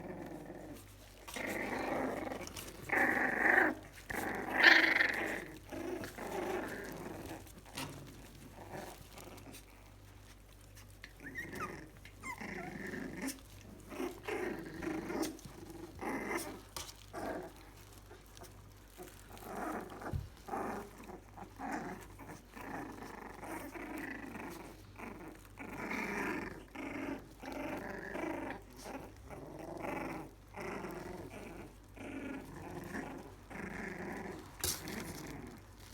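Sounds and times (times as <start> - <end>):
puppies growling: 0.0 - 35.9.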